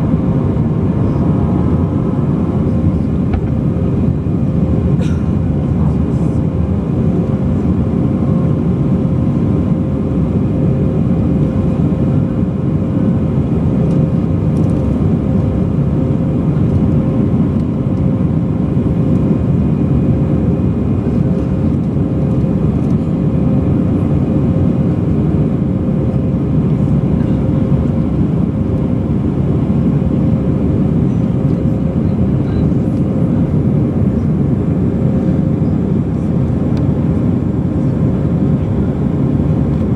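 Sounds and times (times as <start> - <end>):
jet engines roaring: 0.0 - 39.9
steady hum tone: 0.0 - 39.9.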